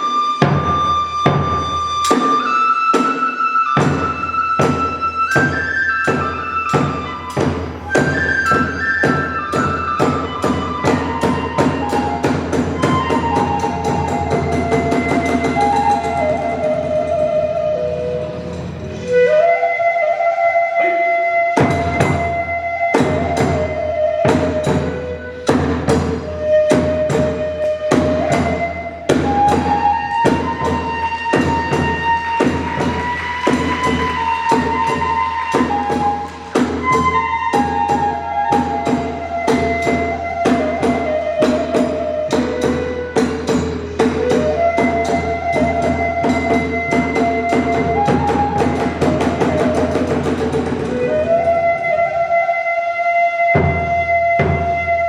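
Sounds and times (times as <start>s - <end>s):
drum and hand cymbal strikes: 0.0s - 19.3s, 21.6s - 51.6s
high bamboo flute melody: 0.0s - 55.0s.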